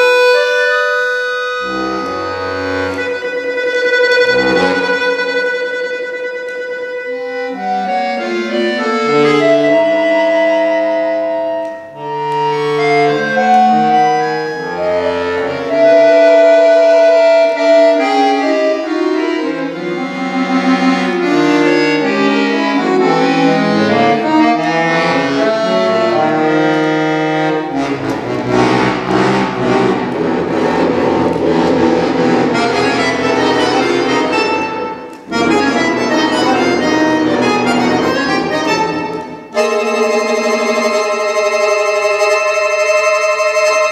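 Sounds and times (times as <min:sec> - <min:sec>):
solo accordion playing: 0:00.0 - 0:43.9.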